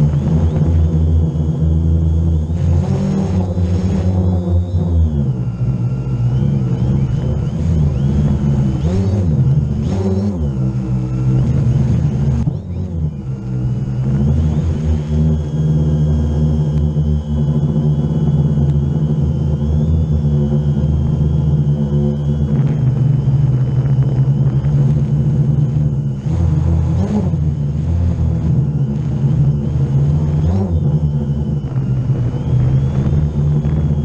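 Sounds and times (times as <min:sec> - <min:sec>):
drone propellers buzzing: 0:00.0 - 0:34.0.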